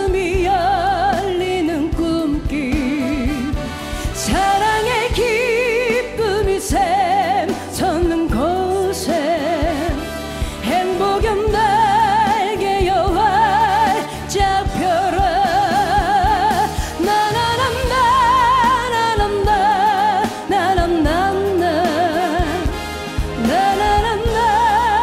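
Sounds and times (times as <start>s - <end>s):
backing track: 0.0s - 25.0s
steady drum beat: 0.0s - 25.0s
woman singing into microphone: 0.0s - 25.0s.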